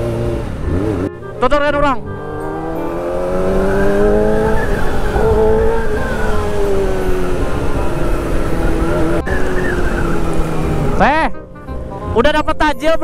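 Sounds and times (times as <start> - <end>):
motorcycle engine revving: 0.0 - 11.2
wind and road noise: 0.0 - 13.0.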